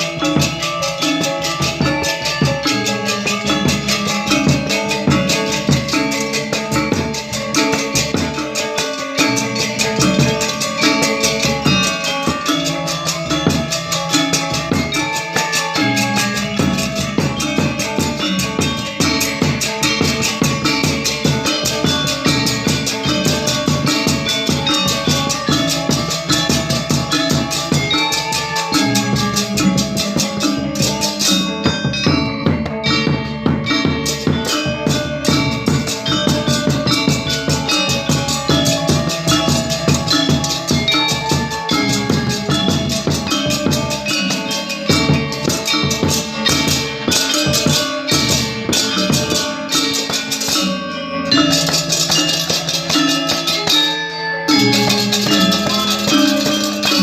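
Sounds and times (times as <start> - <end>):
drums: 0.0 - 57.0
metallophones and gongs ringing: 0.0 - 57.0.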